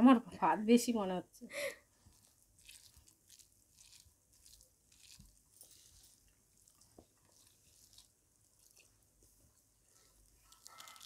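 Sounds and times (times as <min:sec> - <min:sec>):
fingers mixing rice on a plate: 0:01.9 - 0:11.0.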